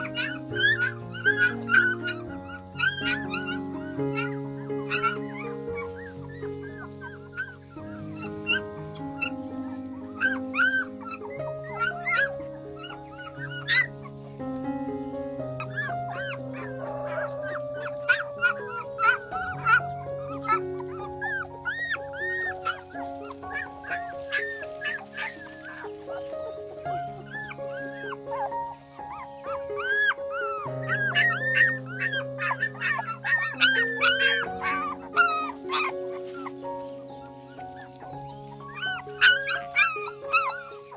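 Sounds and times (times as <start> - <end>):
puppies whimpering and squealing: 0.0 - 40.9
slow held chords music: 0.0 - 40.9.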